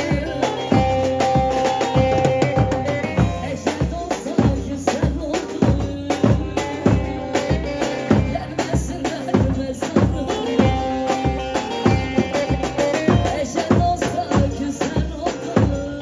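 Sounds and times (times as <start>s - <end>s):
driving drum beat: 0.0s - 16.0s
folk dance music with lute: 0.0s - 16.0s.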